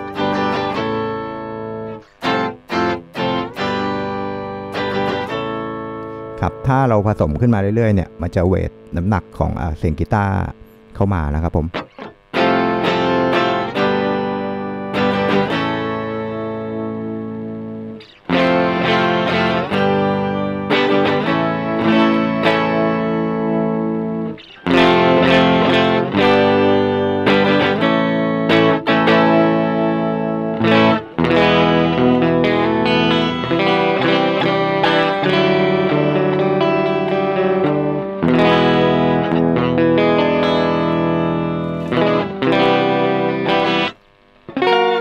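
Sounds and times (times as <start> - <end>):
electric guitar with octave effect: 0.0 - 45.0.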